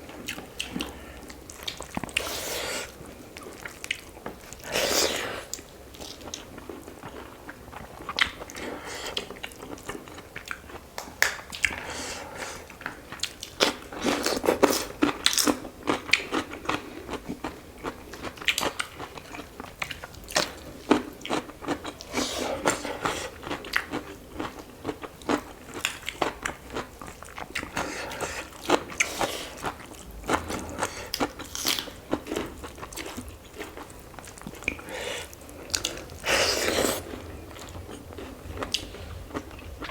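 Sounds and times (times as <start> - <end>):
close chewing and crunching: 0.0 - 39.9.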